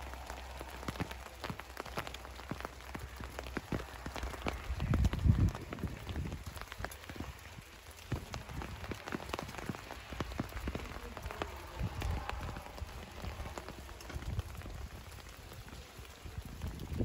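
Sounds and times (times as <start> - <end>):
rain pattering on leaves: 0.0 - 17.0.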